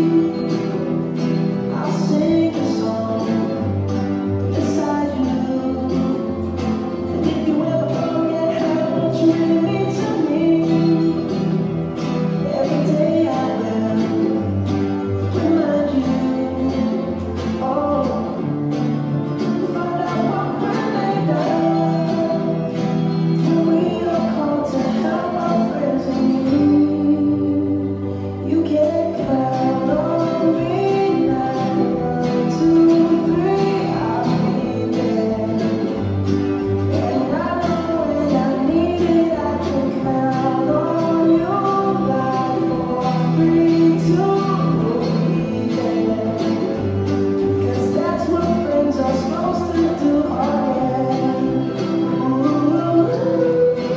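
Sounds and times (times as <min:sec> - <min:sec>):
acoustic guitars strumming: 0:00.0 - 0:53.9
person singing: 0:00.0 - 0:53.9.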